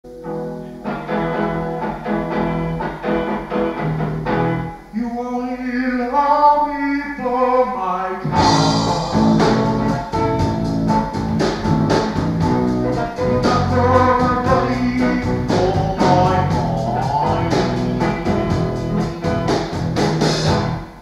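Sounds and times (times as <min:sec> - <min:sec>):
rock band with drums: 0:00.1 - 0:04.9, 0:08.2 - 0:21.0
plucked guitar: 0:00.1 - 0:05.0, 0:08.2 - 0:21.0
sliding guitar melody: 0:00.1 - 0:05.0, 0:08.2 - 0:21.0.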